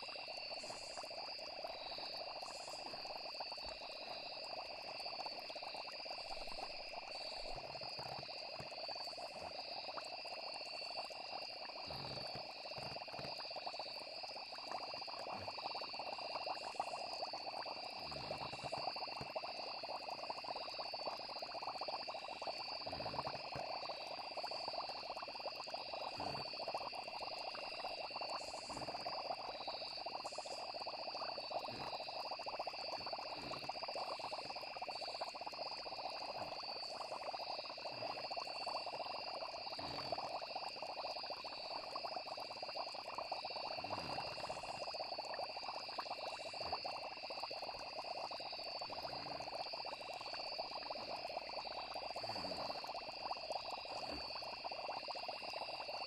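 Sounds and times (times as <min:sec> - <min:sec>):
cauldron bubbling: 0:00.0 - 0:56.0
crickets and frogs chirping: 0:00.0 - 0:56.0
soft low bubble pops: 0:00.0 - 0:56.0.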